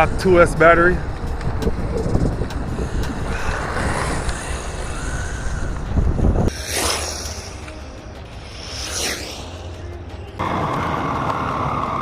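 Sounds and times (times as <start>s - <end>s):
wind and tyre noise: 0.0s - 12.0s
high motor whine: 1.0s - 12.0s.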